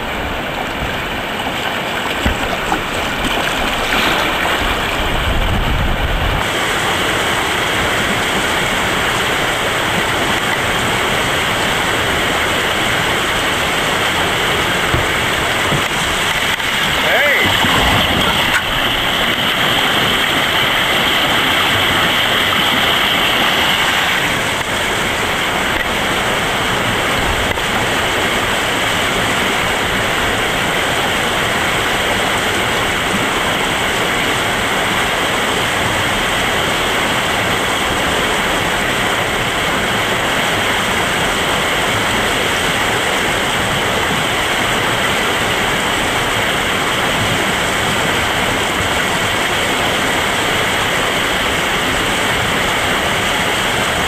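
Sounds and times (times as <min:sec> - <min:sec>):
whitewater rapid rushing: 0:00.0 - 0:54.0.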